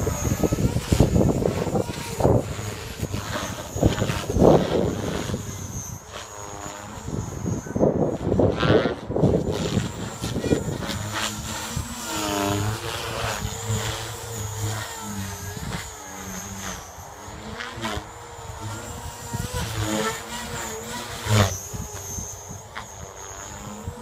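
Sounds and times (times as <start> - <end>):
helicopter motor whine: 0.0 - 24.0
rotor blades swishing: 0.0 - 24.0.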